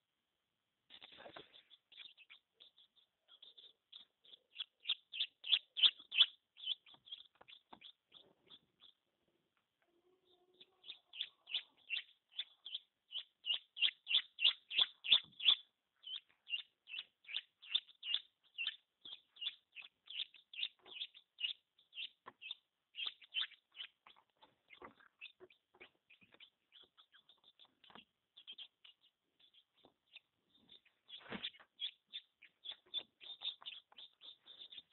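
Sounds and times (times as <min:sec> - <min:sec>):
chick peeping: 0:00.9 - 0:09.1, 0:09.8 - 0:34.9.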